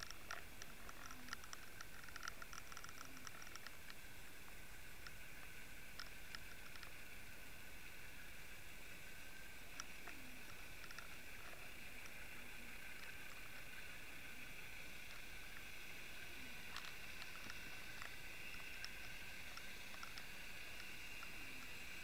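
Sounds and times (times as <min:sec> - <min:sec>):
faint clicks: 0:00.0 - 0:07.4, 0:09.6 - 0:22.0
muffled underwater hiss: 0:00.0 - 0:22.0.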